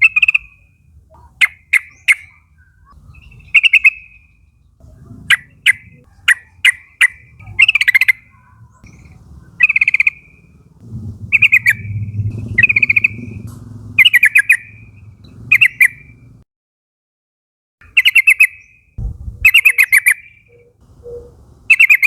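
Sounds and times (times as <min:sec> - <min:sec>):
bird chattering: 0:00.0 - 0:16.4, 0:17.8 - 0:22.0
low background rumble: 0:00.0 - 0:16.4, 0:19.0 - 0:21.8.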